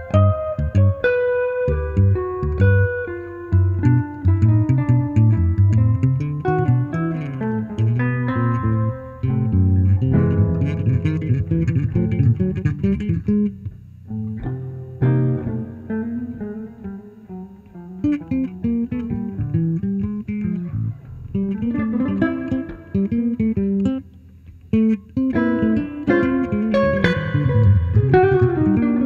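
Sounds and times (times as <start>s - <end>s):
electric bass line: 0.0s - 29.0s
electric guitar plucked notes: 0.0s - 29.0s.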